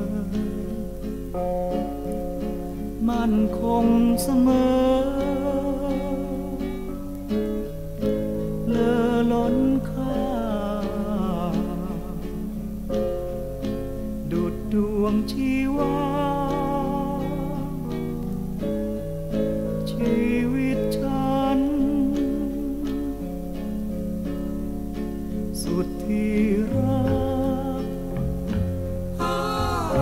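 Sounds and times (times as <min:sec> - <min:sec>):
pop song with guitar: 0:00.0 - 0:30.0.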